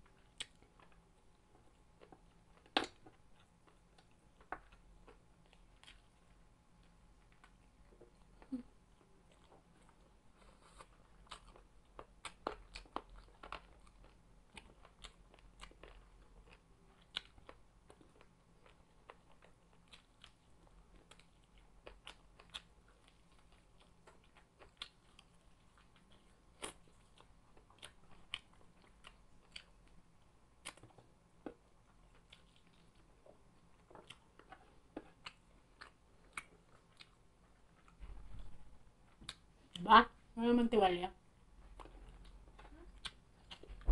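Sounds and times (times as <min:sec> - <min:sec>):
crunching and chewing fried chicken: 0:00.0 - 0:39.8, 0:41.4 - 0:43.9.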